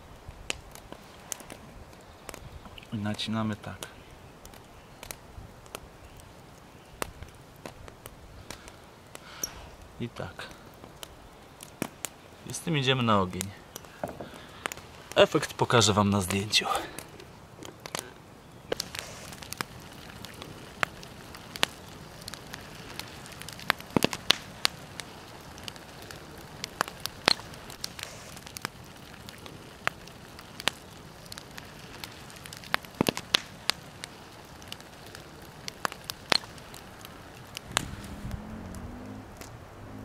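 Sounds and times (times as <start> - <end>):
campfire crackling and popping: 0.0 - 40.0
fire hissing: 0.0 - 40.0.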